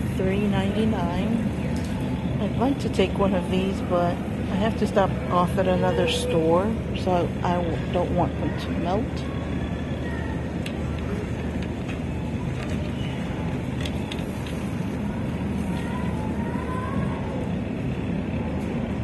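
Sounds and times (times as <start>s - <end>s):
faint voices: 0.0s - 19.0s
low store hum: 0.0s - 19.0s.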